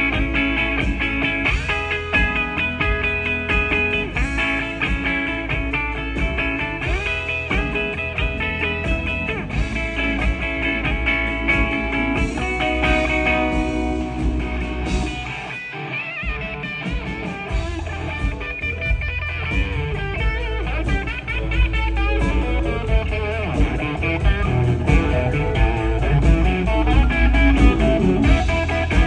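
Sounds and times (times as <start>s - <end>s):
steady low bass: 0.0s - 15.5s, 17.5s - 29.0s
electric guitar blues lead: 0.0s - 29.0s.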